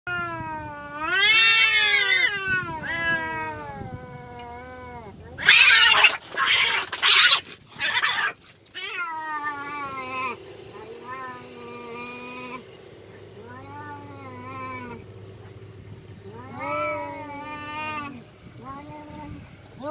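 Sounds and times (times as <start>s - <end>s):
cats hissing: 0.1s - 19.9s
cats yowling: 0.1s - 19.9s.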